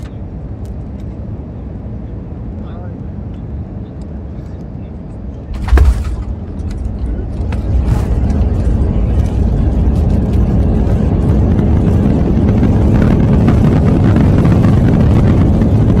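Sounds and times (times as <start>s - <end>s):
airliner engines rumbling on runway: 0.0s - 16.0s.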